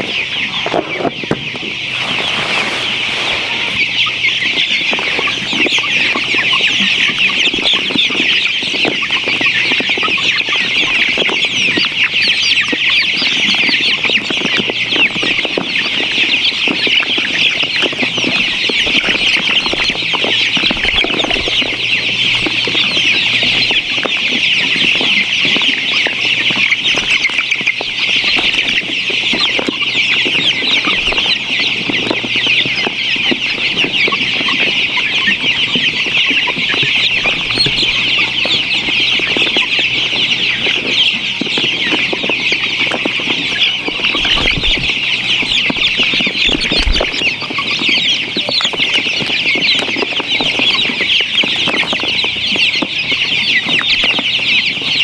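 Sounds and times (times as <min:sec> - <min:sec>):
flock of chickens calling: 0:00.0 - 0:55.0.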